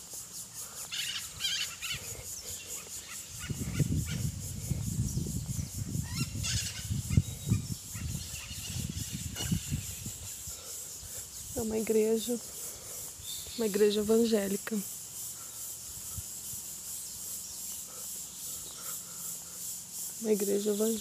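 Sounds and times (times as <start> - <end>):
birds calling: 0.0 - 21.0
steady high hiss: 0.0 - 21.0.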